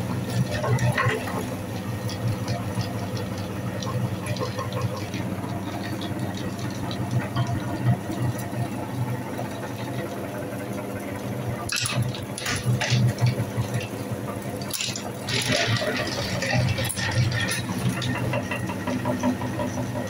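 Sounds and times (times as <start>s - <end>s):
meat grinder humming: 0.0s - 20.0s.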